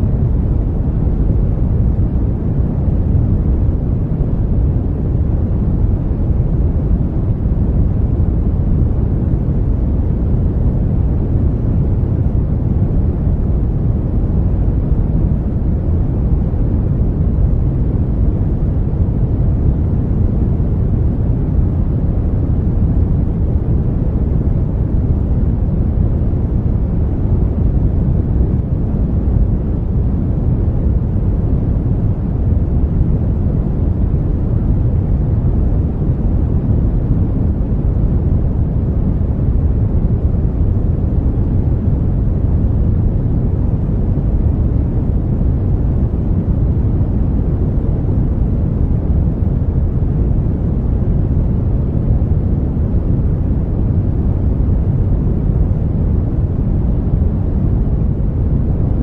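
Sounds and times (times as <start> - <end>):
brown noise: 0.0 - 59.0.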